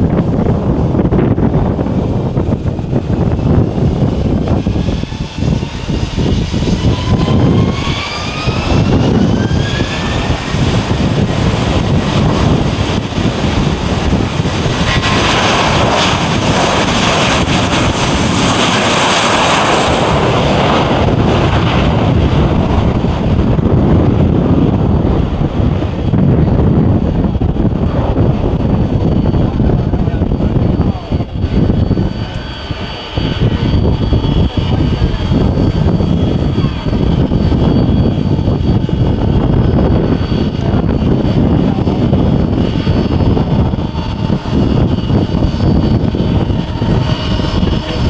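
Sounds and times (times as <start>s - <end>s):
jet engines whining and roaring: 0.0s - 48.0s.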